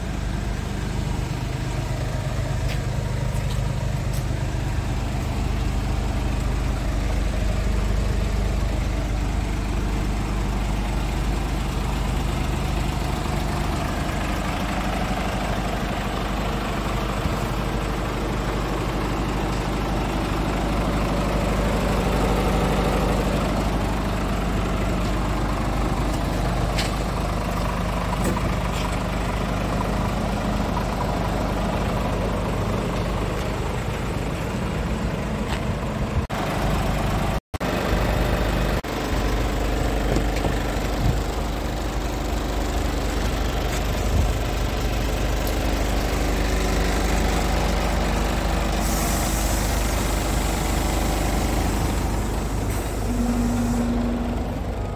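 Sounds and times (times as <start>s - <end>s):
truck diesel engine idling: 0.0s - 54.9s.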